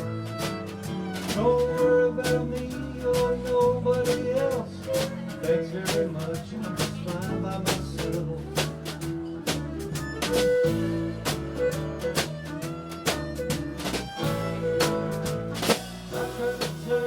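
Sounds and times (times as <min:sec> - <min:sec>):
live country-blues band: 0:00.0 - 0:17.0.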